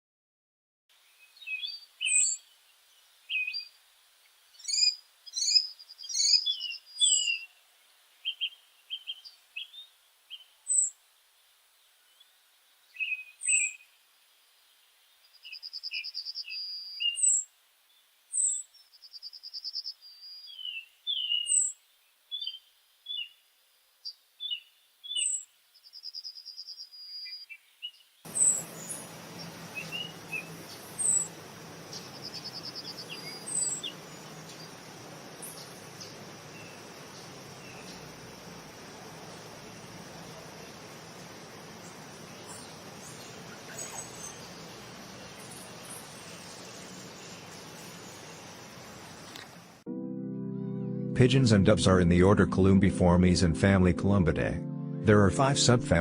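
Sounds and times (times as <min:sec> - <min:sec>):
steady hiss with low hum: 0:00.9 - 0:19.4, 0:20.0 - 0:26.0, 0:27.8 - 0:49.9
small birds chirping: 0:01.0 - 0:11.0, 0:11.8 - 0:14.0, 0:14.6 - 0:49.8.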